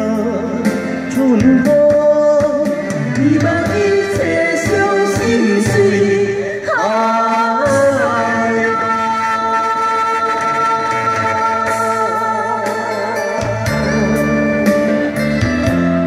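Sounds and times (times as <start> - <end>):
woman and man singing duet: 0.0 - 14.8
backing music: 0.0 - 16.0.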